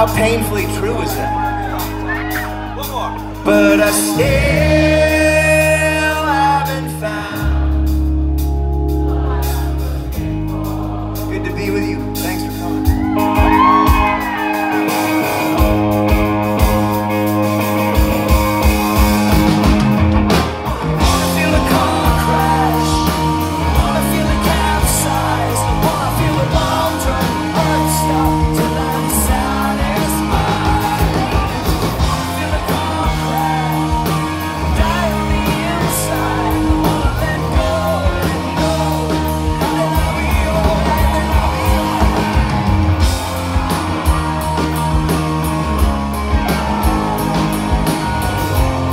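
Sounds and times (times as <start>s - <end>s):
bass guitar: 0.0s - 48.9s
drum kit beat: 0.0s - 48.9s
electric guitars: 0.0s - 48.9s.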